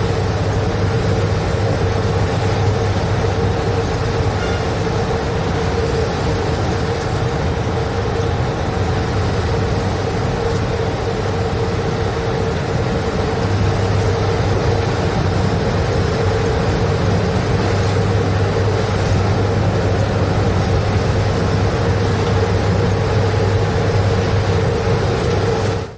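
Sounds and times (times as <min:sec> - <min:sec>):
train running along track: 0:00.0 - 0:25.9.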